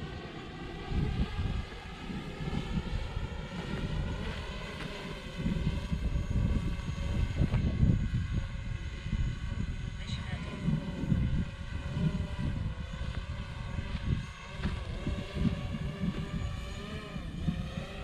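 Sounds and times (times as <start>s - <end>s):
drone propellers whining: 0.0s - 18.0s
wind buffeting microphone: 0.7s - 18.0s.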